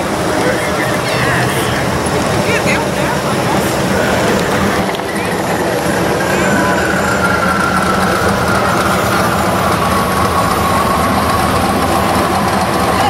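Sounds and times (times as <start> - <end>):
car engine rumbling: 0.0 - 13.0
whine dropping in pitch: 0.0 - 13.0.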